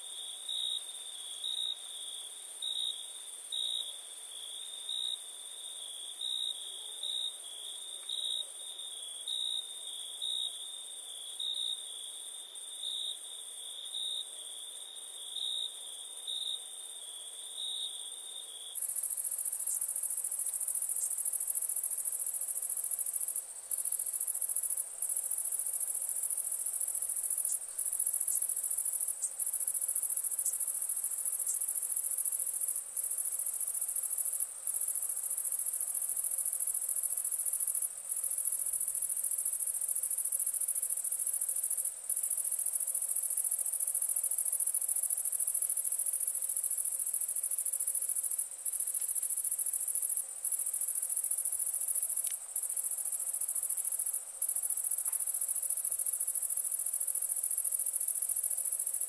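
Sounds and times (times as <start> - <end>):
crickets chirping: 0.0 - 59.0
faint campfire crackles: 0.0 - 59.0.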